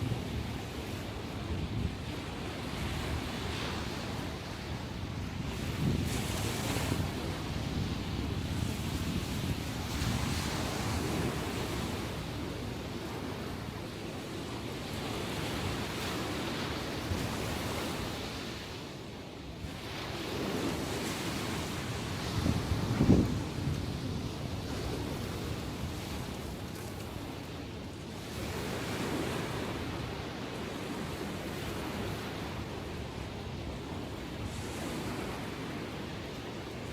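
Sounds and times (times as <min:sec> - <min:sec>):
wind on microphone: 0:00.0 - 0:18.7, 0:19.6 - 0:36.9
sea surf breaking on shore: 0:00.0 - 0:36.9.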